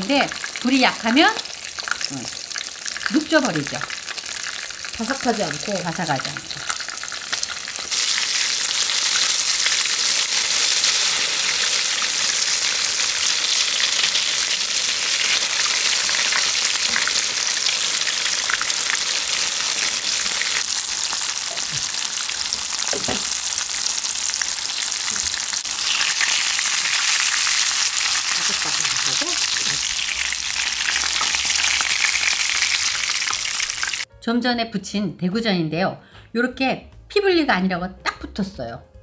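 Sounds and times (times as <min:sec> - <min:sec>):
fish sizzling in hot oil: 0:00.0 - 0:34.1.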